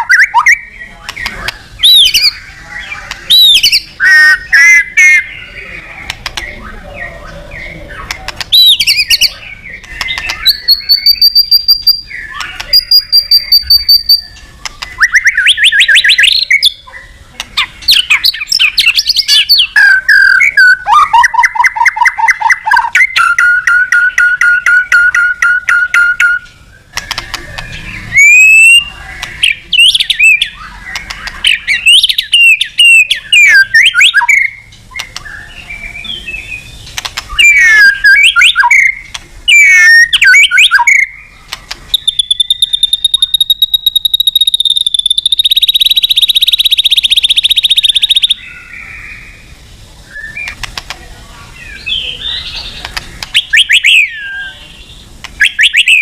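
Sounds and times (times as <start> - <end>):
songbird whistling and trilling: 0.0 - 5.7, 6.4 - 26.5, 27.6 - 49.4, 50.0 - 50.6, 51.6 - 56.0.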